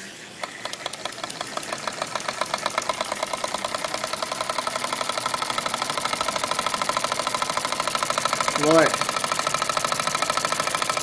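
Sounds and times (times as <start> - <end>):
steam engine running: 0.4 - 11.0.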